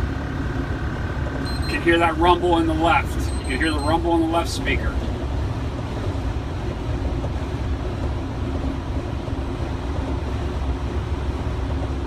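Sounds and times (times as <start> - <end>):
road and tyre rumble: 0.0 - 12.0
truck engine hum: 0.0 - 12.0.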